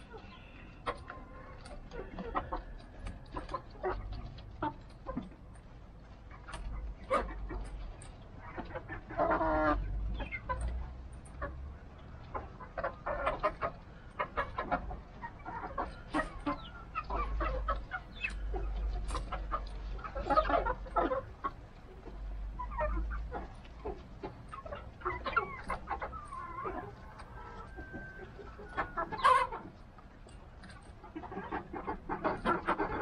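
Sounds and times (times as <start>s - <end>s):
chickens clucking: 0.0s - 33.0s
drawn-out chicken calls: 0.0s - 33.0s.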